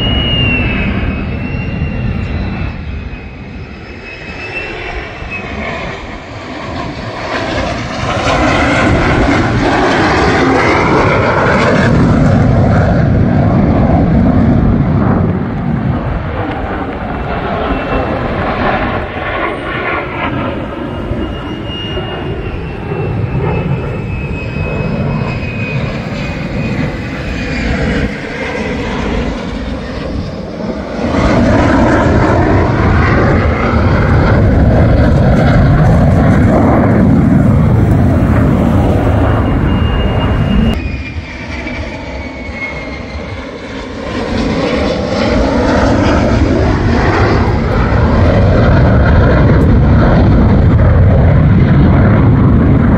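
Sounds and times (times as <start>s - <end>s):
low-flying jet rumble and whine: 0.0s - 52.9s.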